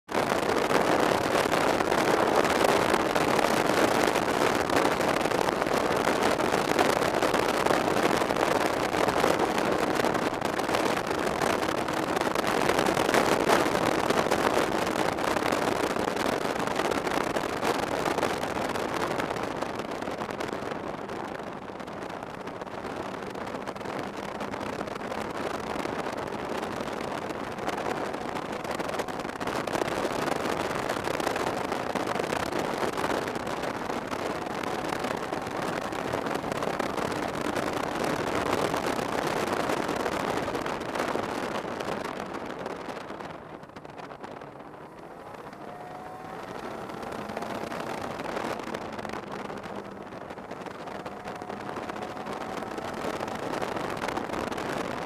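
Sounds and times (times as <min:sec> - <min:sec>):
snowmobile engine drone: 0:00.0 - 0:55.0
wind noise on microphone: 0:00.0 - 0:55.0.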